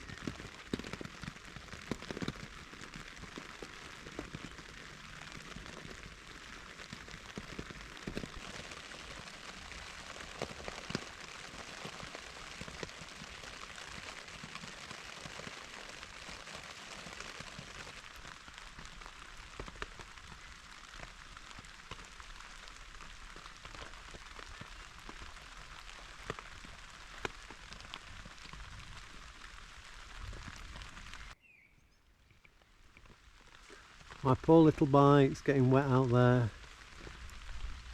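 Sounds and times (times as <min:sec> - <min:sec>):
heavy raindrops ticking: 0:00.0 - 0:31.4, 0:32.4 - 0:37.9
rain pattering on tent fabric: 0:00.0 - 0:31.4, 0:32.1 - 0:37.9.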